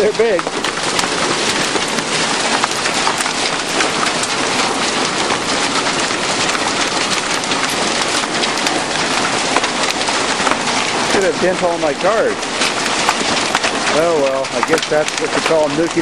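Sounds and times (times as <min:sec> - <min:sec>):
hailstones clattering: 0:00.0 - 0:16.0.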